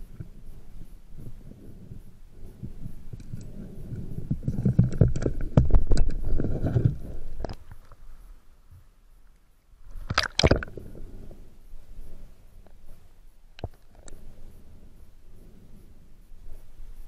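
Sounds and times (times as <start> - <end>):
underwater rumbling and handling: 0.0 - 17.0.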